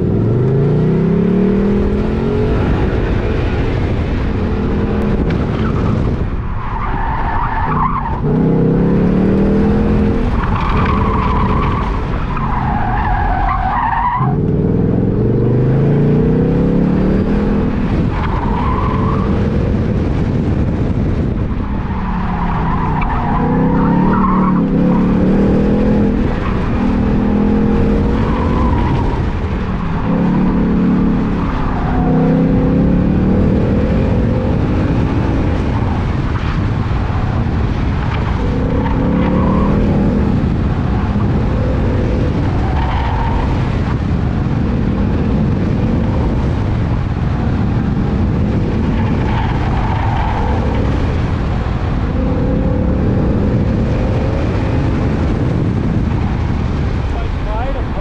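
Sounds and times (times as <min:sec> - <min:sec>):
car engine revving: 0:00.0 - 0:58.0
tires squealing: 0:05.1 - 0:15.7, 0:16.5 - 0:58.0.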